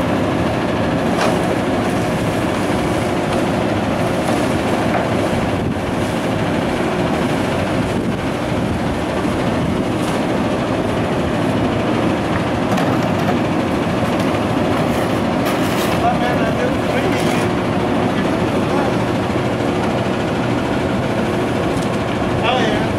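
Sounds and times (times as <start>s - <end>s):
truck diesel engine running: 0.0s - 22.9s.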